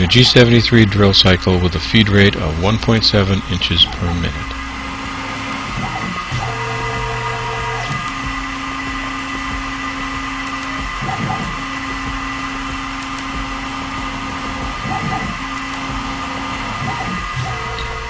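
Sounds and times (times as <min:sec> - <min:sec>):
milling machine drilling metal: 0:00.0 - 0:18.0.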